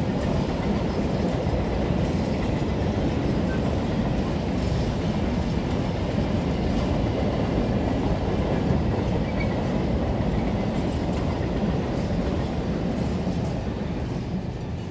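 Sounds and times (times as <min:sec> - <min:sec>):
train wheels on rails: 0:00.0 - 0:14.9.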